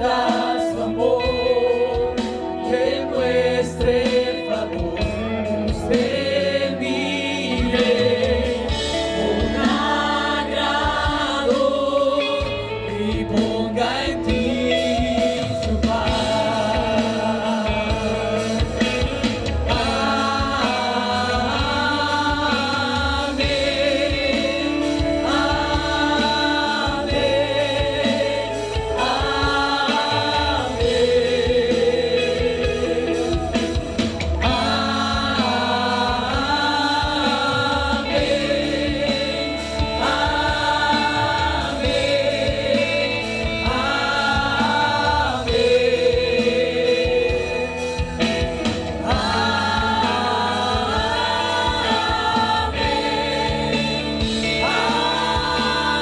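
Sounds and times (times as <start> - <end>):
group singing slow gospel song: 0.0 - 56.0
musical accompaniment: 0.0 - 56.0.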